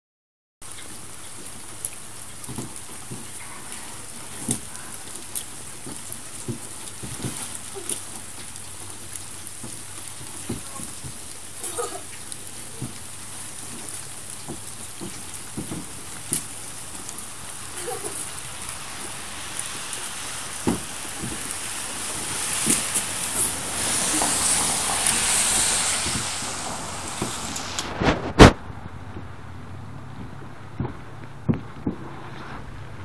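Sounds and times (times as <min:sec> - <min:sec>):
raindrops tapping close by: 0:00.6 - 0:32.2
steady rain falling: 0:00.6 - 0:33.0.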